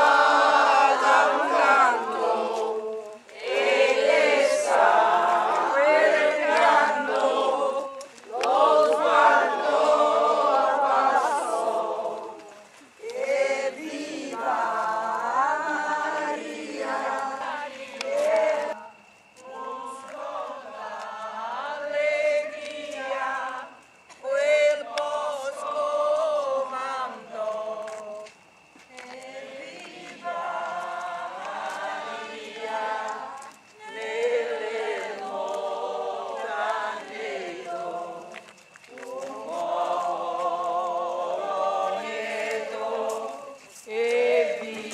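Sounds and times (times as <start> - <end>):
crowd singing unaccompanied: 0.0 - 44.9.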